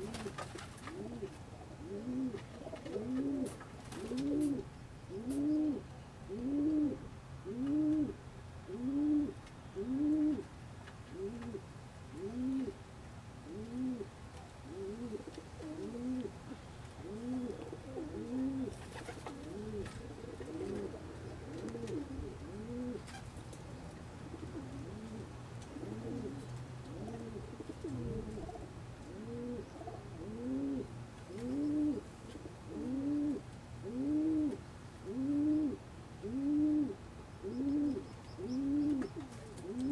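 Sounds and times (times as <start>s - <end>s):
pigeons cooing: 0.0s - 10.5s, 11.1s - 12.8s, 13.4s - 23.4s, 24.2s - 39.9s.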